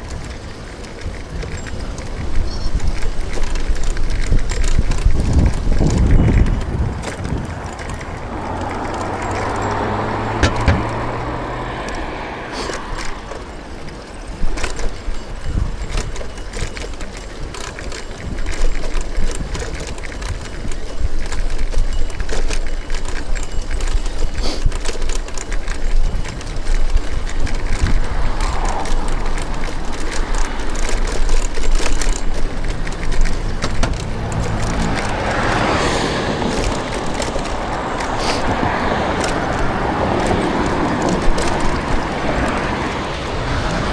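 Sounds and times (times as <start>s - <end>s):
motor vehicles passing: 0.0s - 16.0s, 22.7s - 43.9s
bicycle rattles: 0.0s - 43.9s
road and wind noise: 0.0s - 43.9s.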